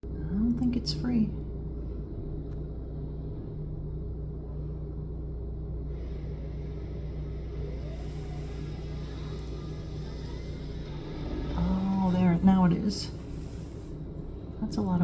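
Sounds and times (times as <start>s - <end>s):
faint rising whine: 0.0s - 15.0s
large engine running: 0.0s - 15.0s.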